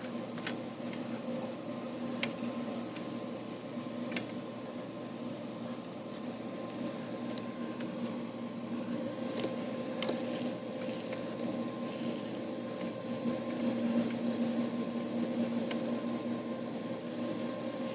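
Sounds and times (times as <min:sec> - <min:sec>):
mechanical hum: 0:00.0 - 0:17.9.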